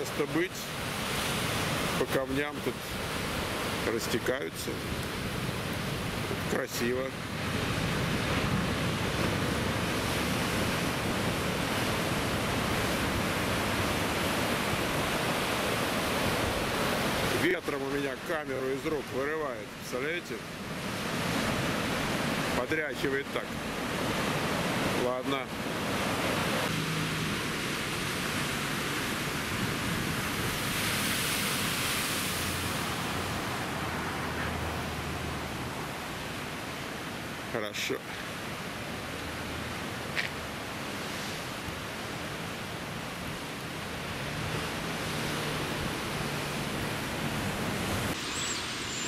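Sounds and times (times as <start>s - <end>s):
ocean surf breaking on rocks: 0.0s - 49.0s.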